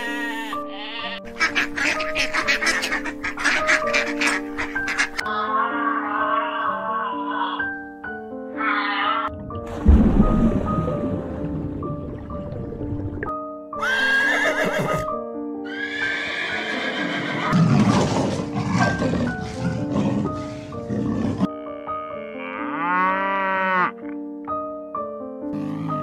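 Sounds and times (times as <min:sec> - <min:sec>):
light background music: 0:00.0 - 0:26.0.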